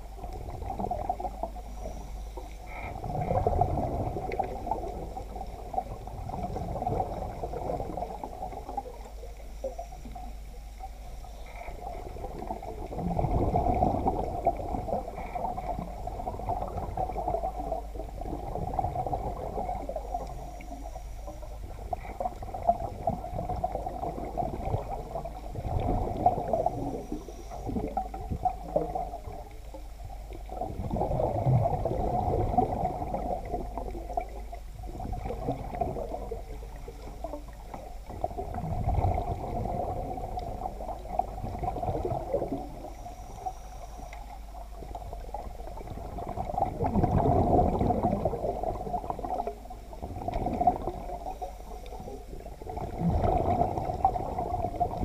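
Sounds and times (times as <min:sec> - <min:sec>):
muffled underwater gurgling: 0:00.0 - 0:55.0.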